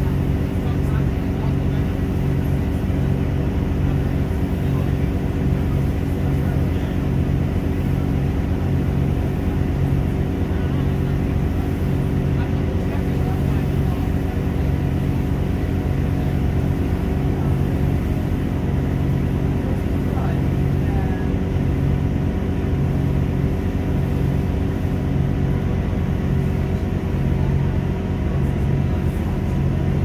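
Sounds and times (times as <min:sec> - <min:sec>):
diesel train engine drone: 0:00.0 - 0:30.0.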